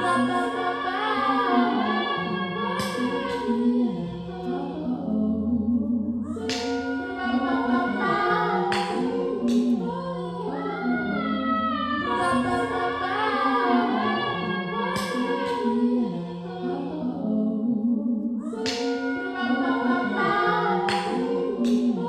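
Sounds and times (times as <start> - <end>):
woman singing in layered harmony: 0.0 - 22.0.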